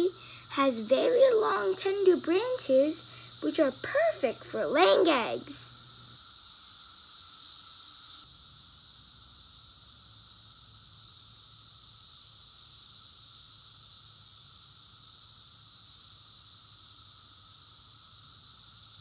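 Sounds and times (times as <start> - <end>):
cicadas chorus: 0.0 - 19.0.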